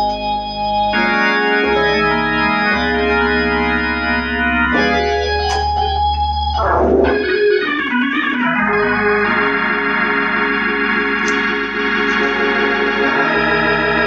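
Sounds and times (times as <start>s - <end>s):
organ chords through rotating speaker: 0.0s - 14.0s.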